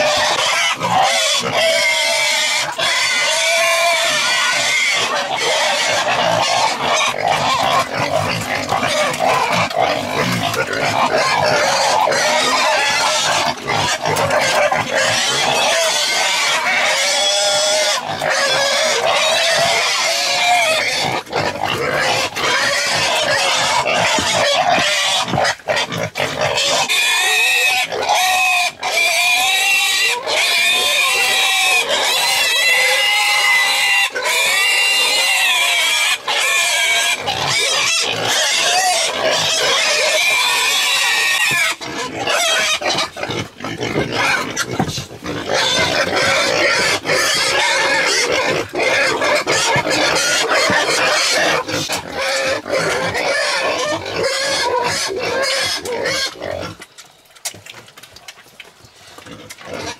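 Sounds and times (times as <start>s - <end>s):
pigs squealing: 0.0s - 57.0s, 59.2s - 59.9s.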